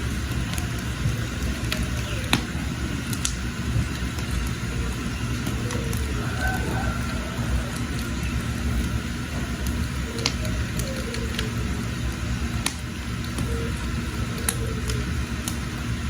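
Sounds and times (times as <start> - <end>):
fire crackles: 0.0 - 16.0
wood fire rumbling: 0.0 - 16.0.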